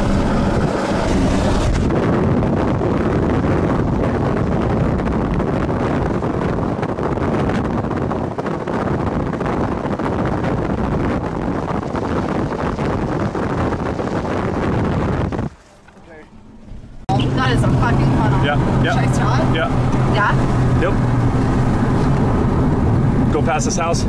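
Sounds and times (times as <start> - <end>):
road noise: 0.0 - 24.0
wind through car window: 0.0 - 24.0.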